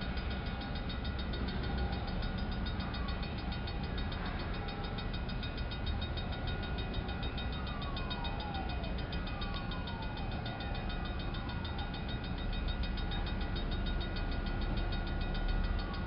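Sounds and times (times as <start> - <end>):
freight train rumbling by: 0.0 - 16.0.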